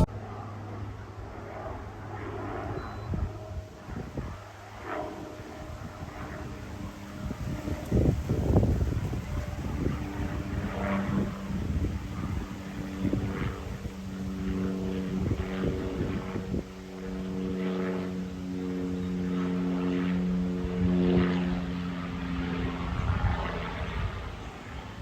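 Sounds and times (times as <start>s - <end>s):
propeller airplane drone: 0.0s - 25.0s
wind on microphone: 2.6s - 18.6s, 19.3s - 25.0s.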